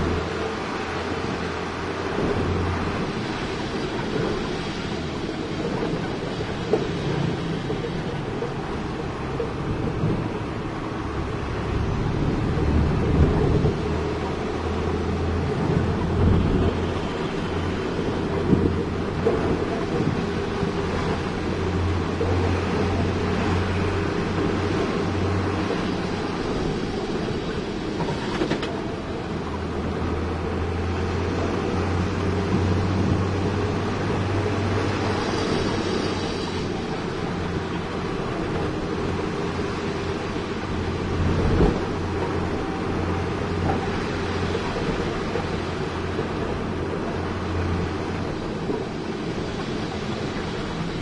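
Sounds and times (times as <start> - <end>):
diesel engine rumbling: 0.0 - 51.0.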